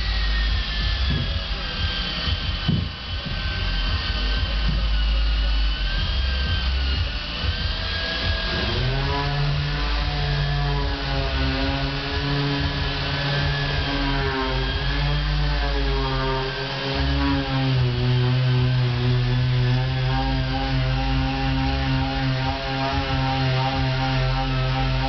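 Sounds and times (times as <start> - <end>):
power sanders and grinders whining: 0.0 - 25.0.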